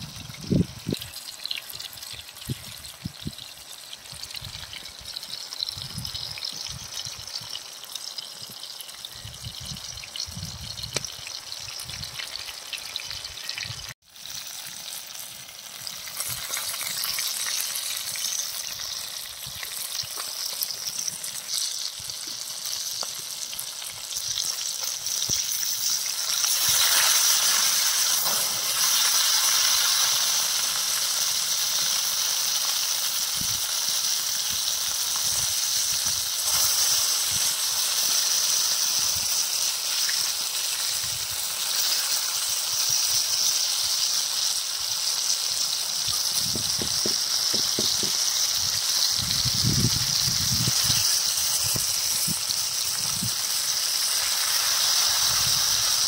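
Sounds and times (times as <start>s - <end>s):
fish sizzling in oil: 0.0s - 56.0s.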